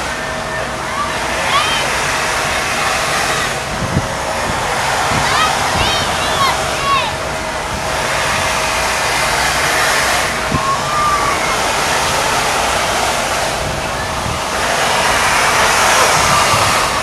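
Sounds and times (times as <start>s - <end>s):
train rolling past rushing: 0.0s - 17.0s.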